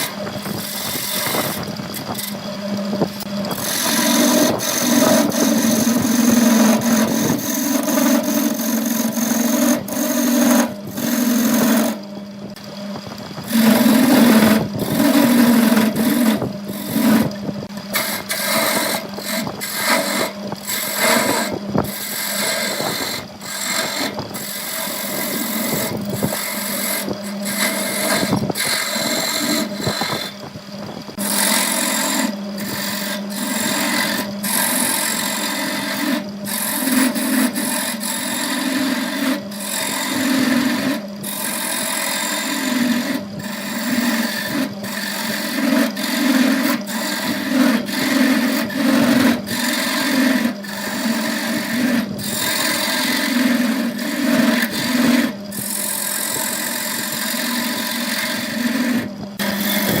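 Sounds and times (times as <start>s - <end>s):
turning tool scraping wood: 0.0s - 60.0s
wood lathe motor hum: 0.0s - 60.0s.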